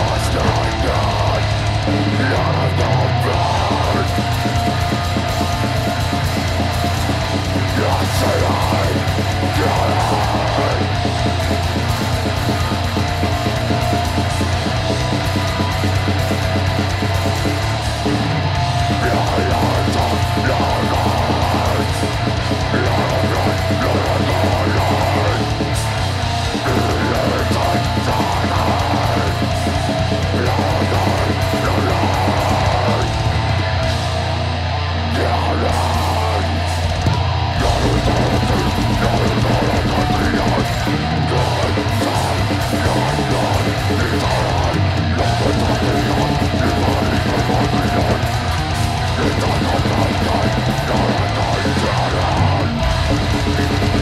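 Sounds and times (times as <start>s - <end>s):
bass guitar: 0.0s - 54.0s
distorted electric guitar: 0.0s - 54.0s
drum kit pounding: 0.0s - 54.0s.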